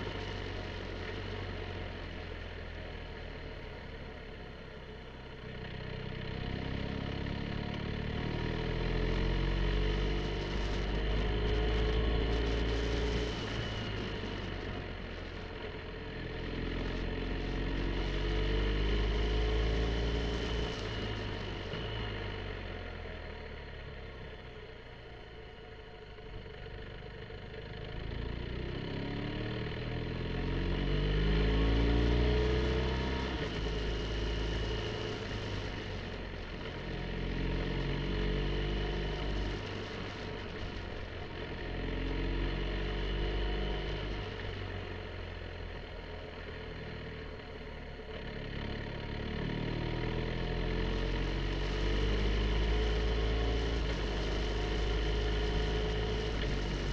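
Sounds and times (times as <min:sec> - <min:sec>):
wind and road noise: 0:00.0 - 0:56.9
motorcycle engine revving: 0:06.1 - 0:24.6, 0:26.9 - 0:56.9.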